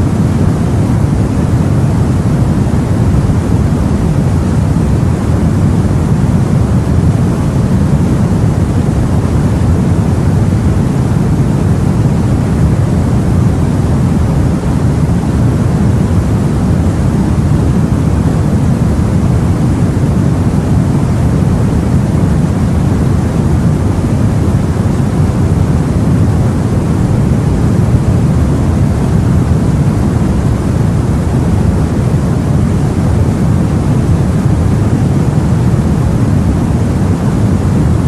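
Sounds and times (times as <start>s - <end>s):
sea and wind rumble aboard boat: 0.0s - 38.0s.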